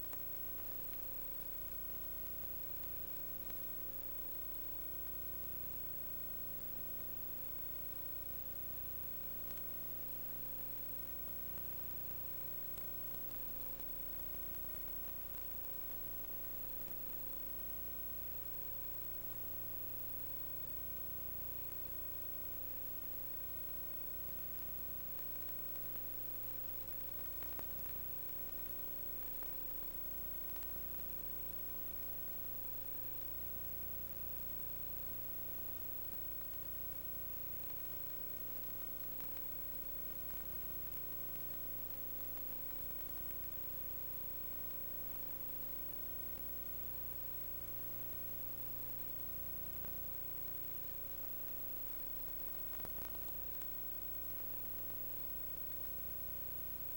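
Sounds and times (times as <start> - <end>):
faint click: 0.0 - 4.6, 6.5 - 17.7, 18.3 - 56.9
constant electronic tones: 0.0 - 56.9
electrical hum and hiss: 0.0 - 56.9.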